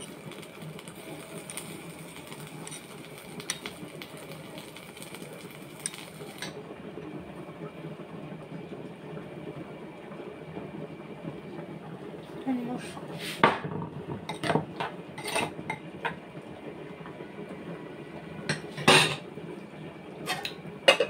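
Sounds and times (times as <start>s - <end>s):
gas burner flame rushing: 0.0s - 21.0s.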